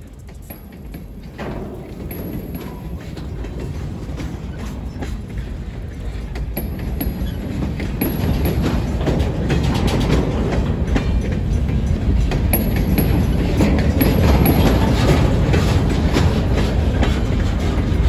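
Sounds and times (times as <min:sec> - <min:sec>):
clacks over rail joints: 0:00.0 - 0:18.0
freight train wheels rumbling: 0:00.0 - 0:18.0.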